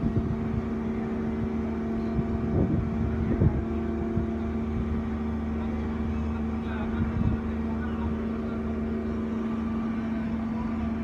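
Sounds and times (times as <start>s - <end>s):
heavy machinery engine drone: 0.0s - 11.0s.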